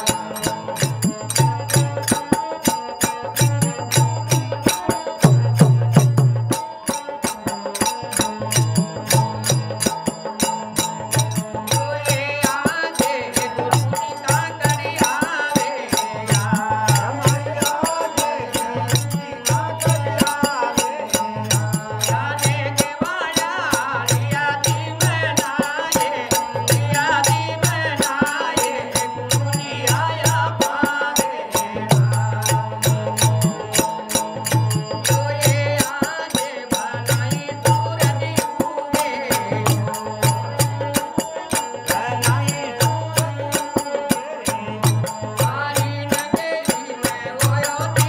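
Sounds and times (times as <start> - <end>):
harmonium chords: 0.0 - 48.0
man singing: 0.0 - 48.0.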